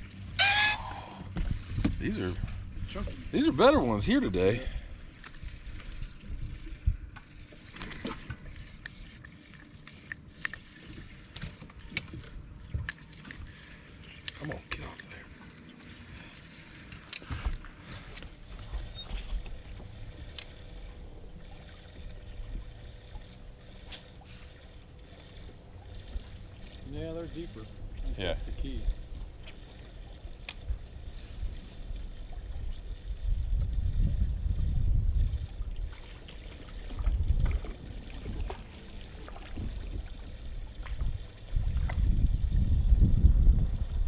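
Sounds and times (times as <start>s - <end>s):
faint steady hum: 0.0s - 44.0s
wind and water against hull: 0.0s - 44.0s.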